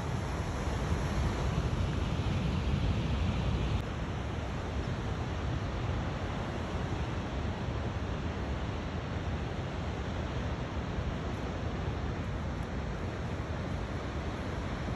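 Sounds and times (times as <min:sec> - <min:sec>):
ocean surf: 0:00.0 - 0:14.9.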